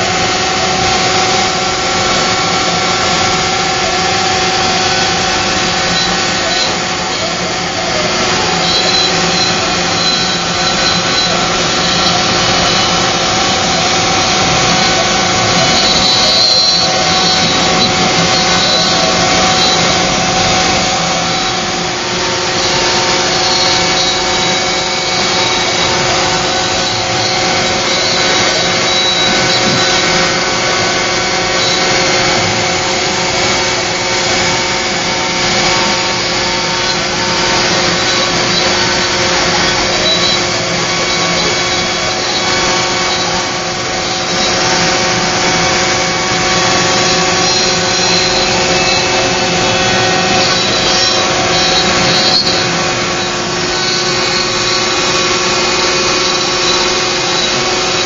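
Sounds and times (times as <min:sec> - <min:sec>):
bit rasping through wood: 0:00.0 - 0:58.0
router spindle whine: 0:00.0 - 0:58.0.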